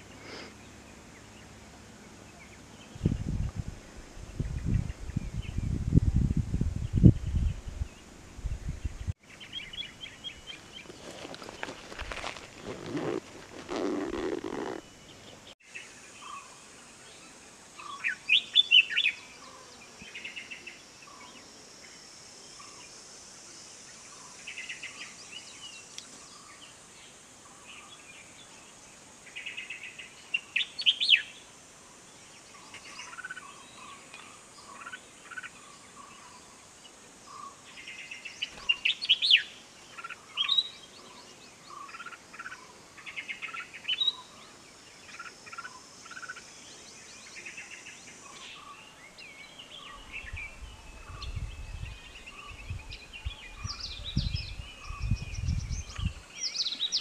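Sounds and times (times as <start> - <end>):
wild birds chirping: 0.0 - 5.8, 6.9 - 57.0.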